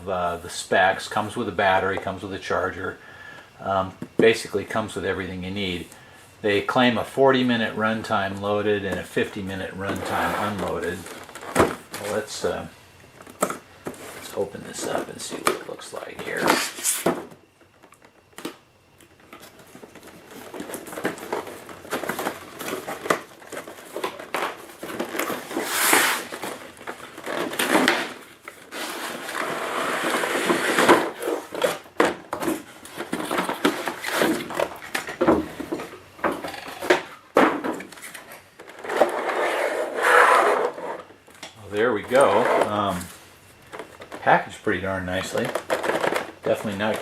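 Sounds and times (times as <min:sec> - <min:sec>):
packaging rustling and crinkling: 0:08.9 - 0:47.0.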